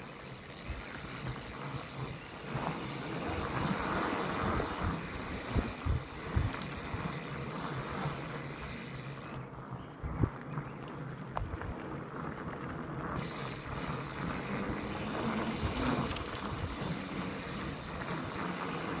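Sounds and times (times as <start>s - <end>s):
tyres rolling and rattling: 0.0s - 9.4s, 10.2s - 19.0s
bicycle freewheel hub ticking: 0.0s - 9.5s, 11.1s - 19.0s.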